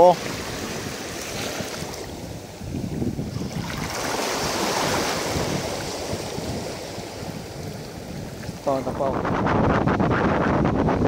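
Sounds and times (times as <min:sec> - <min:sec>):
small waves splashing: 0:00.0 - 0:09.0
wind buffeting microphone: 0:00.0 - 0:11.0.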